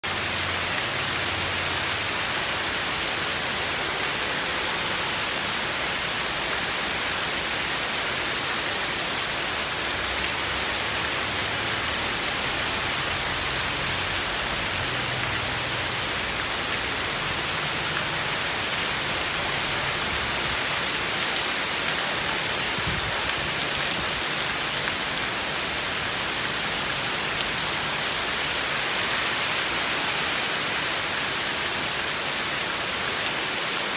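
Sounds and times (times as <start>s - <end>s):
heavy rain on trees and pavement: 0.0s - 33.9s.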